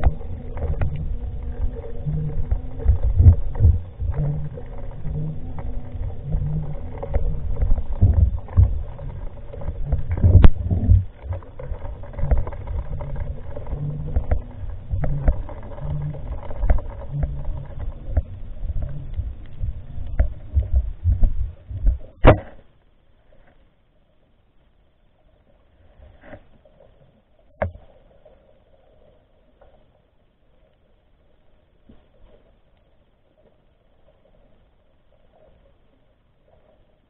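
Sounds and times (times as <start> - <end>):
muffled underwater rumble: 0.0 - 37.0.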